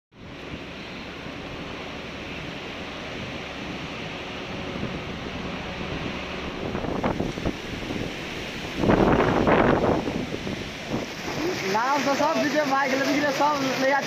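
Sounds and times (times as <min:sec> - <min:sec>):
storm wind buffeting microphone: 0:00.1 - 0:12.9.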